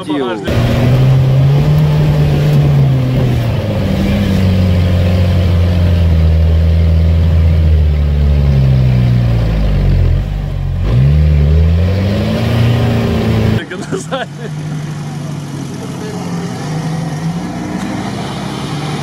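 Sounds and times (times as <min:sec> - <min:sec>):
car engine under load: 0:00.0 - 0:19.0.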